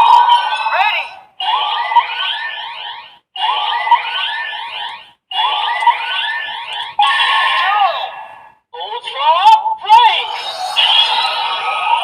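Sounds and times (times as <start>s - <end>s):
toy alarm-like warbling: 0.0s - 8.5s, 10.1s - 12.0s.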